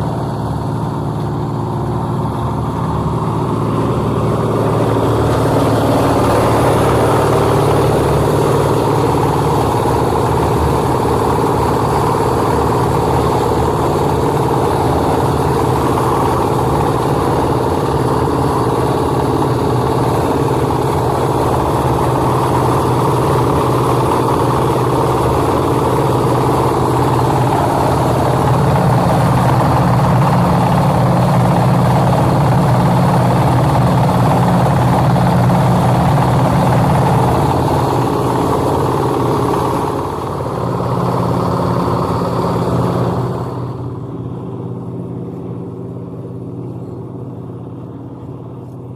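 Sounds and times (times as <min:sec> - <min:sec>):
concrete mixer engine running: 0:00.0 - 0:48.9.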